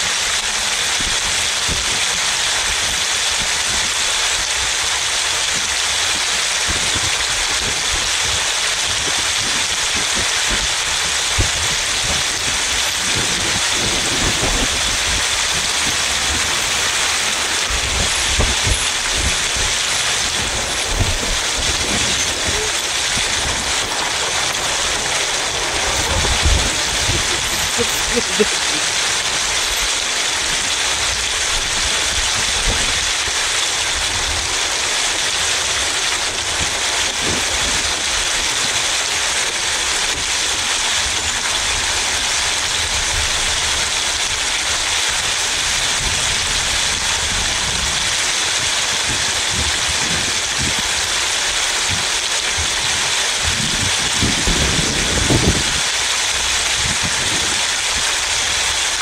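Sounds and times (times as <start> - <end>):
car tyres hissing on wet road: 0.0 - 59.0.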